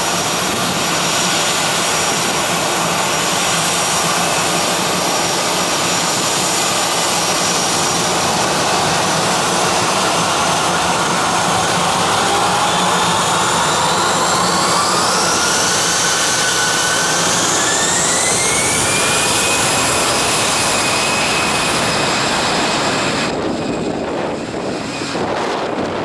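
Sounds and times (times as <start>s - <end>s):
high jet engine whine: 0.0s - 26.0s
jet engines roaring: 0.0s - 26.0s.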